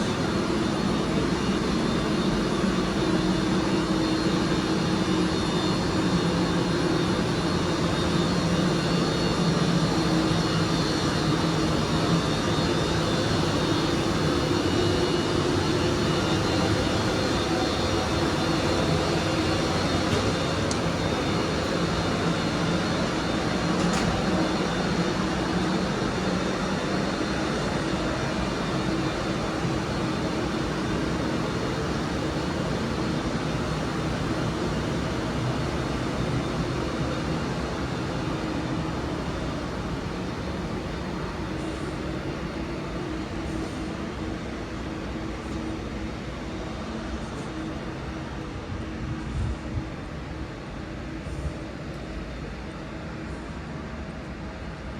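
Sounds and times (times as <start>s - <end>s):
faint high whine: 0.0s - 54.9s
train equipment humming: 0.0s - 54.9s.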